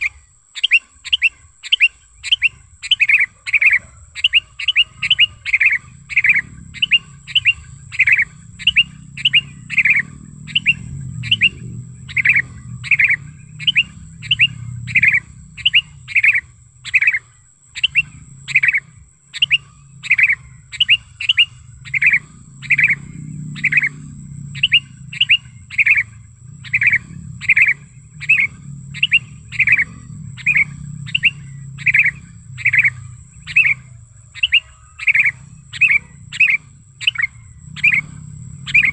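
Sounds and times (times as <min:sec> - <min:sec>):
bulbul chirping: 0:00.0 - 0:38.9
low rumble: 0:04.1 - 0:38.9.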